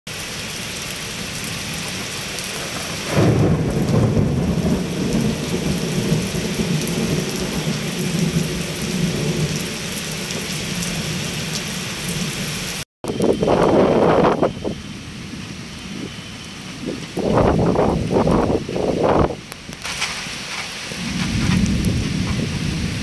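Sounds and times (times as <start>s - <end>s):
heavy rain pouring: 0.1s - 23.0s
thunder rumble: 1.1s - 23.0s.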